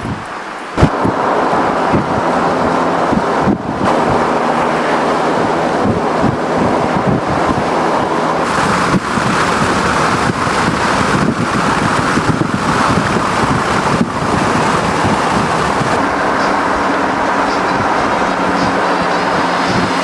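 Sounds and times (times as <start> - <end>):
low engine hum: 0.0 - 20.0
wind noise on microphone: 0.0 - 20.0.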